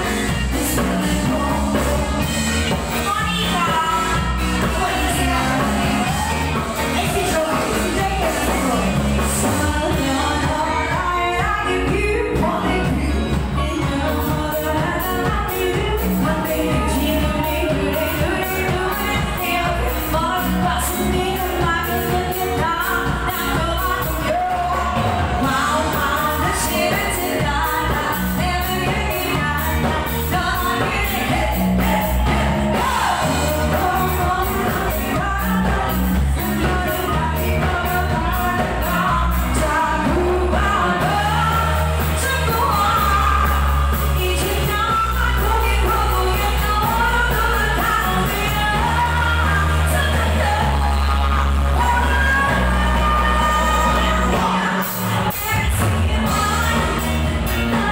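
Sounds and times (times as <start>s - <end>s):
live pop band playing: 0.0s - 57.9s
vocalists singing: 0.0s - 57.9s.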